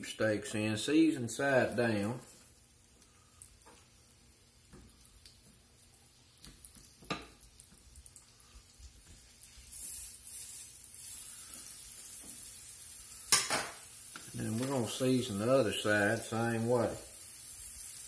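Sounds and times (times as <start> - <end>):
steaks sizzling in a skillet: 1.2 - 18.0.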